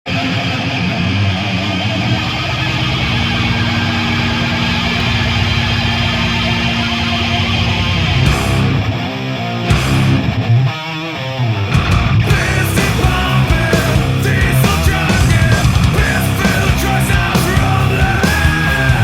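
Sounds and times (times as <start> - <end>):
rock music with distorted guitar: 0.0 - 19.0.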